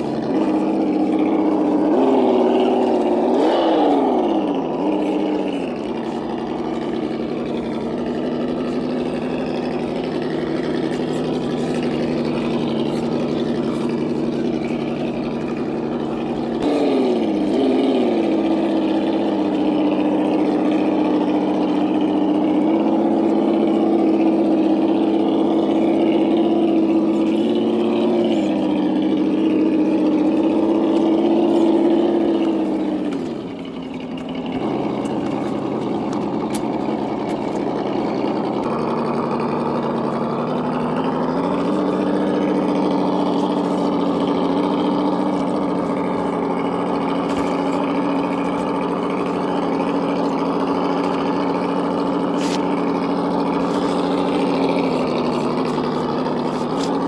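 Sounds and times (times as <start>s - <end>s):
simulated engine through speaker: 0.0s - 57.0s.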